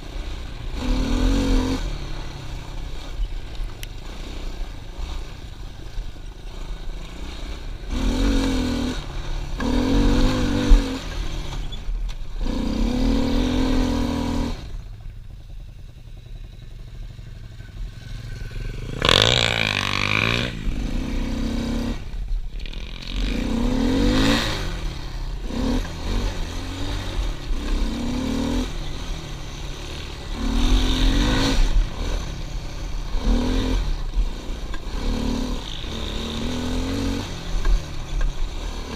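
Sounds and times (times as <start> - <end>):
pit bike engine revving: 0.0 - 14.9, 16.3 - 38.9.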